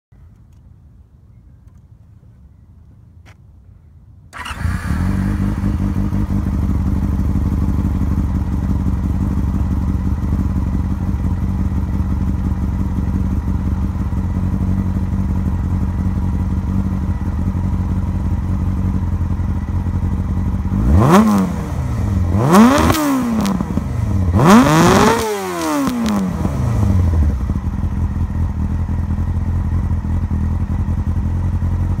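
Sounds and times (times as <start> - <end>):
motorcycle engine idling and revving: 3.8 - 32.0.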